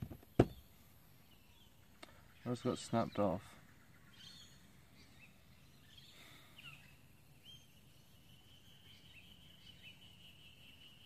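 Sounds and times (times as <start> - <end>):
soft bird chirps: 0.2 - 11.0.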